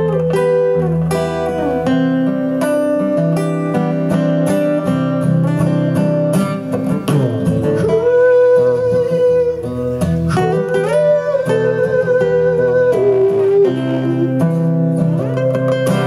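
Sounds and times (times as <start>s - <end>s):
acoustic guitars playing: 0.0s - 16.0s.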